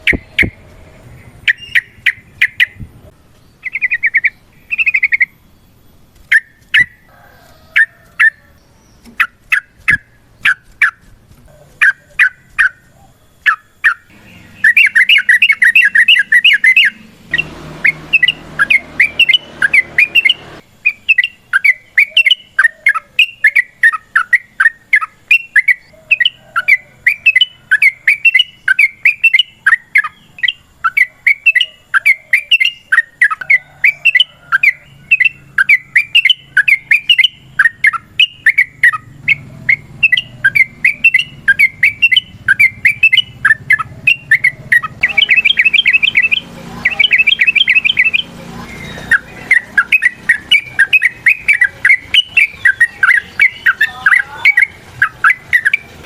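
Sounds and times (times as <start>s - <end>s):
bird singing bubbly chattering notes: 0.0s - 2.8s, 3.6s - 7.0s, 11.8s - 56.0s
bird trill: 0.0s - 2.8s, 3.4s - 56.0s.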